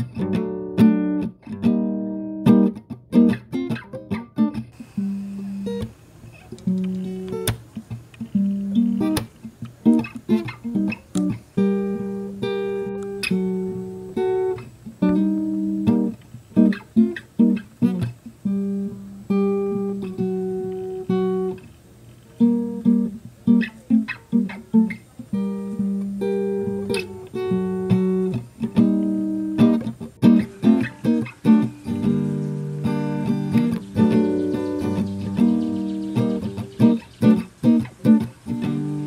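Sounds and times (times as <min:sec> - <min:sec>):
acoustic guitar music: 0:00.0 - 0:39.0.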